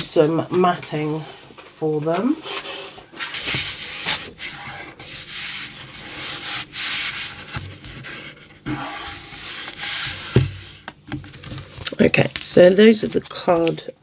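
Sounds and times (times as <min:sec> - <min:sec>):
scratchy scraping of card stock: 0:02.4 - 0:13.8.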